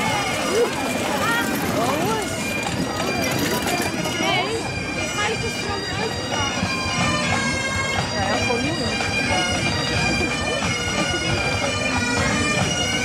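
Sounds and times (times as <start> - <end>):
bagpipe drones: 0.0 - 13.0
bagpipes playing a tune: 0.0 - 13.0.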